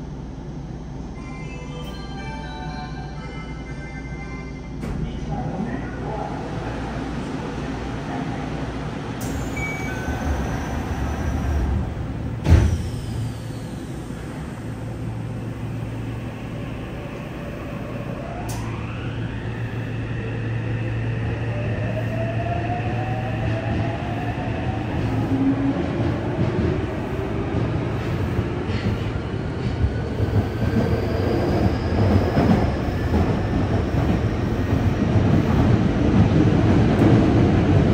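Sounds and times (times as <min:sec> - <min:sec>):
subway doors sliding shut: 0:04.7 - 0:37.9.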